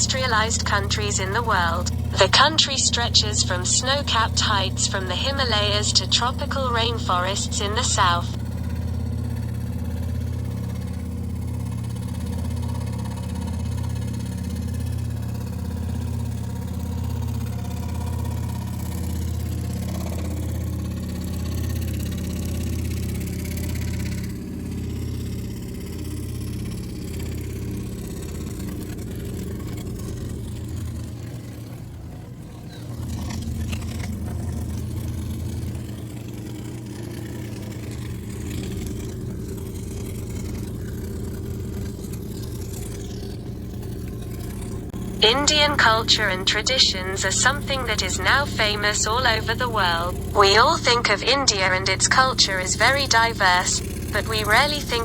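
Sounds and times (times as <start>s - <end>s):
low pulsing machine hum: 0.0s - 55.0s.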